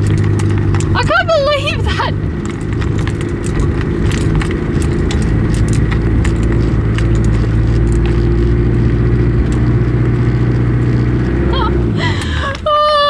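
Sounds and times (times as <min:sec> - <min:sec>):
loose items rattling: 0:00.0 - 0:13.0
truck engine running: 0:00.0 - 0:13.0.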